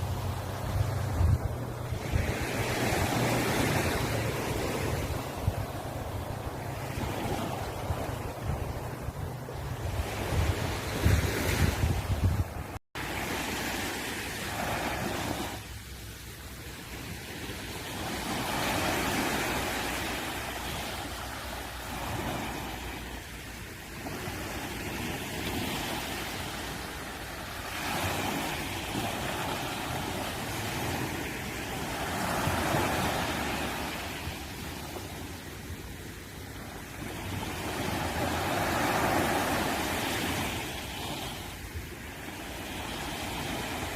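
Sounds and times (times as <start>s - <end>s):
waves breaking on shore: 0.0s - 43.9s.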